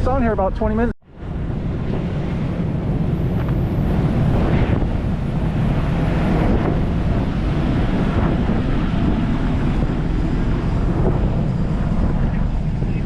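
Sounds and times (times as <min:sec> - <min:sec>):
traffic drone: 0:00.0 - 0:13.0
wind blowing across microphone: 0:00.0 - 0:13.0.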